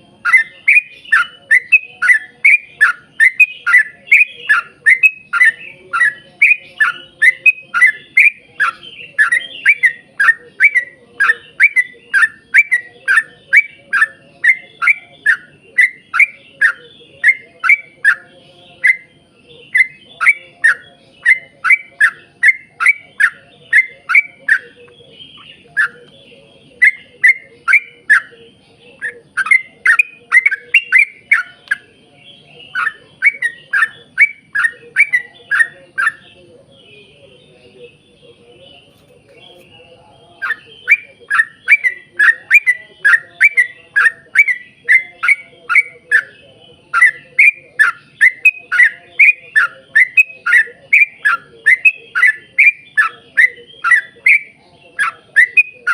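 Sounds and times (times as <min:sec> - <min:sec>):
bulbul singing repeated notes: 0:00.0 - 0:55.9.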